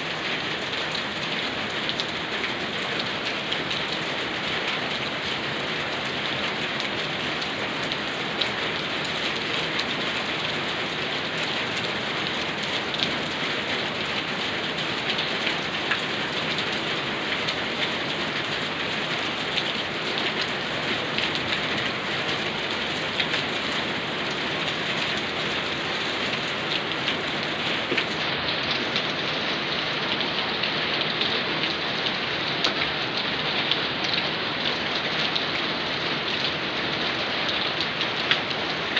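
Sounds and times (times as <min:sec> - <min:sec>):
rain pattering on surface: 0:00.0 - 0:38.9.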